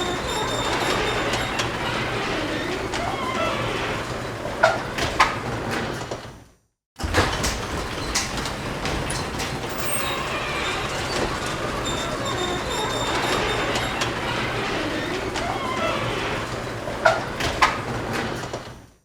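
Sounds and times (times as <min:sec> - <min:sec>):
garage door clicks: 0:00.0 - 0:06.2, 0:07.0 - 0:18.6
garage door rumbling and rattling: 0:00.0 - 0:06.4, 0:07.0 - 0:19.0.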